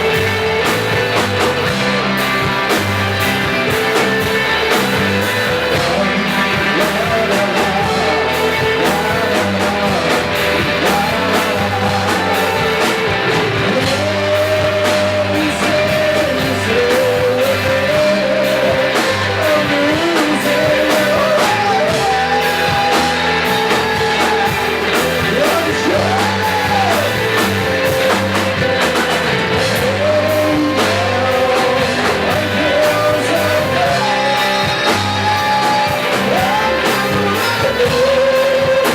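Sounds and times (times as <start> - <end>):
rock music with singer: 0.0 - 38.9.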